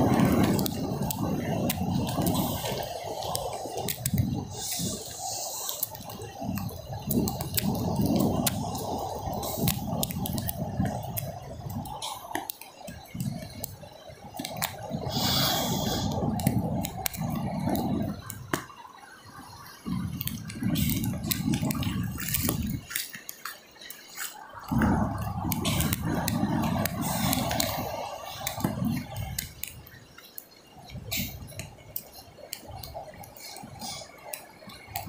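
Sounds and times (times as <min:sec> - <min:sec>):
surf washing: 0:00.0 - 0:35.0
water drips and splashes: 0:00.0 - 0:35.0
wind gusting on microphone: 0:00.0 - 0:35.0.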